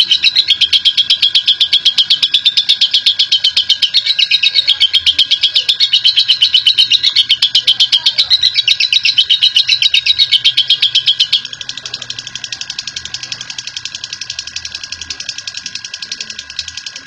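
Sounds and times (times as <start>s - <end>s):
lovebird rattling trill: 0.0s - 17.0s.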